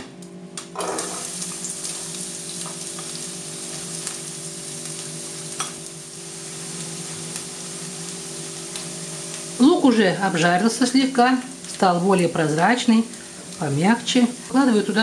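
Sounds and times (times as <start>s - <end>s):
onion sizzling in oil: 0.8s - 15.0s.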